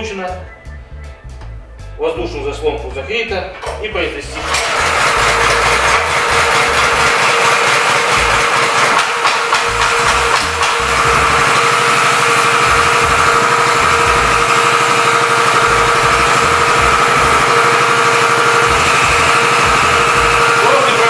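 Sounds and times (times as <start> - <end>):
small petrol engine idling: 3.8 - 21.0.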